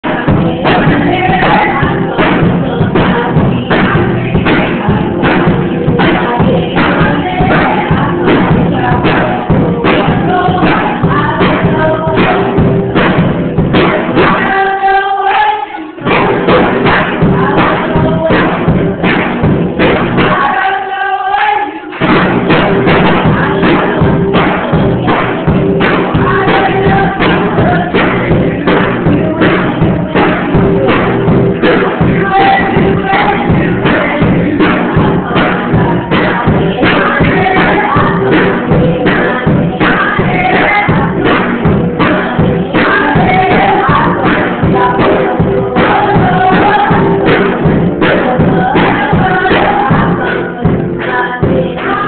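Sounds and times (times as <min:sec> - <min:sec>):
child playing drum kit: 0:00.0 - 0:52.0
music: 0:00.0 - 0:52.0
person singing: 0:00.0 - 0:52.0.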